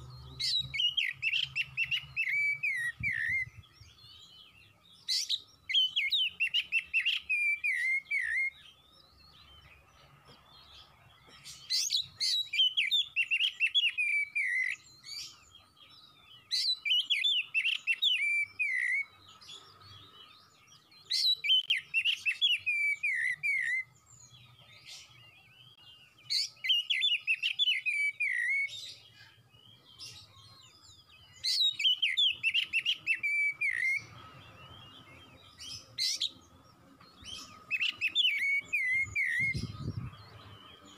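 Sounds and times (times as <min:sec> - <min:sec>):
bird singing whistled phrases: 0:00.4 - 0:09.7, 0:11.6 - 0:19.2, 0:20.3 - 0:36.4, 0:37.2 - 0:40.9.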